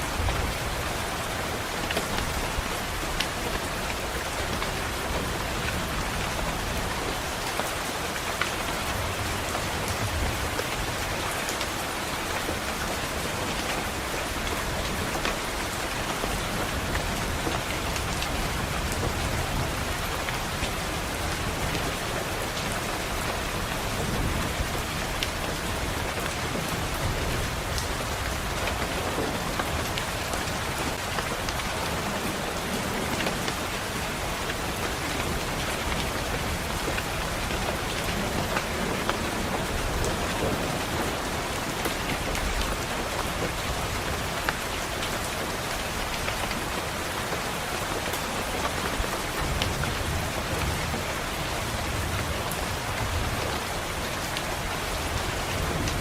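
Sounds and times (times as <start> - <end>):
rain pattering on window: 0.0 - 56.0.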